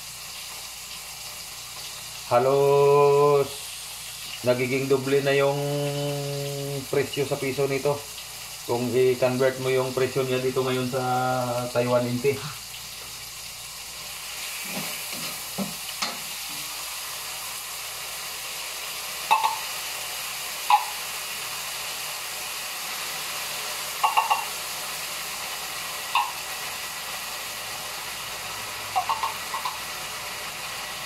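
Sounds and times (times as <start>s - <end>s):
food sizzling in oil: 0.0s - 31.0s.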